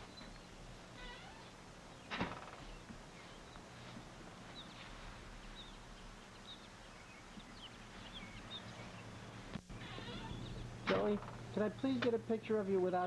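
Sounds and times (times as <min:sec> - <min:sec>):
low electrical hum: 0:00.0 - 0:13.0
small birds chirping: 0:00.0 - 0:13.0.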